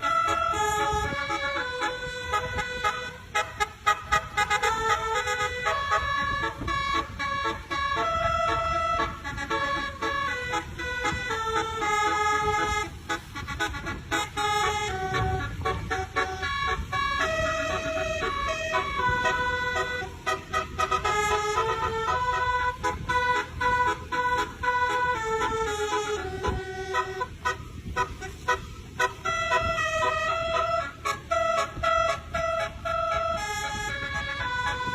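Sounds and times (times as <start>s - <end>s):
multi-tone horn playing melody: 0.0s - 34.9s.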